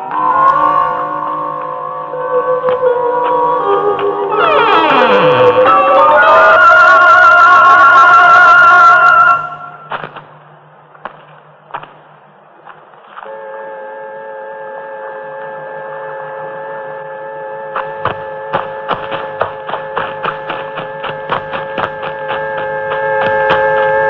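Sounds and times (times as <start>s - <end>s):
electronic low hum: 0.0s - 24.0s
hum of steady tones: 0.0s - 24.0s.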